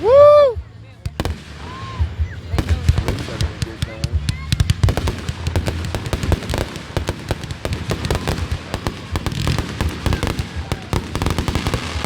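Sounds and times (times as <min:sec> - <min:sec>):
fireworks popping and crackling: 0:00.1 - 0:12.0.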